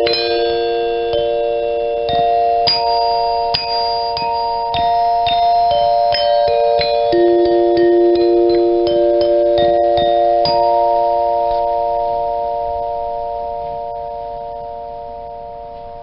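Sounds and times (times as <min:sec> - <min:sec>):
tuned metal bells ringing: 0:00.0 - 0:16.0.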